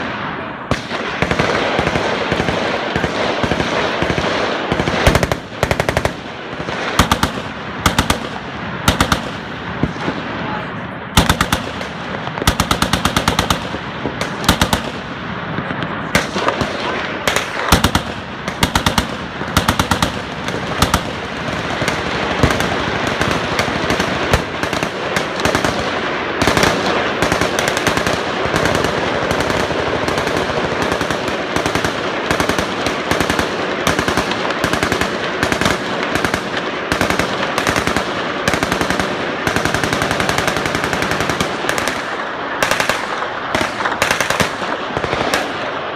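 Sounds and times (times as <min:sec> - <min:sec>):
machine guns firing: 0:00.0 - 0:45.9.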